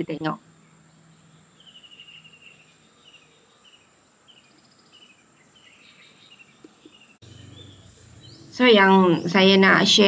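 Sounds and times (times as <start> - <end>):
insects: 0.0 - 10.0
small bird chirping: 0.0 - 10.0.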